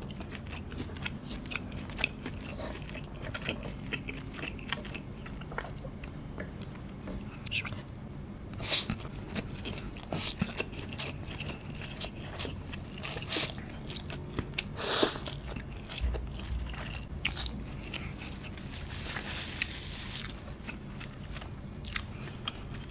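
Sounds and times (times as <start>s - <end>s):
person chewing noodles: 0.0s - 22.9s.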